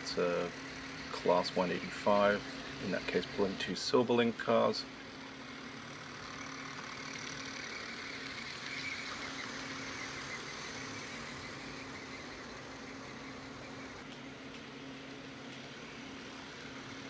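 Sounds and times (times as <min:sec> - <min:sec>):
model trains humming on rails: 0:00.0 - 0:17.0.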